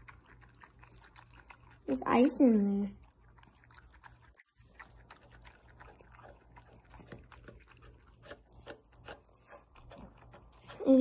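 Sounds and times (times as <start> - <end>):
dog lapping water: 0.0 - 11.0.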